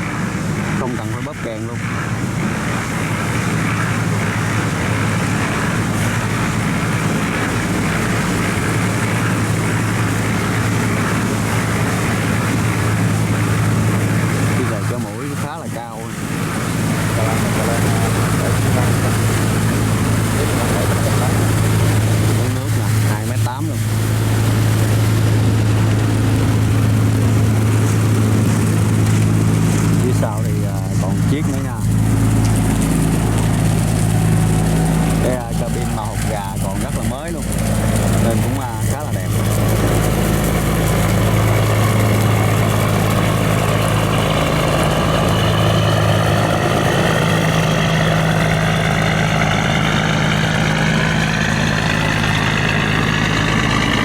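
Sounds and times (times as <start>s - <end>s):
diesel barge engine droning: 0.0s - 54.0s.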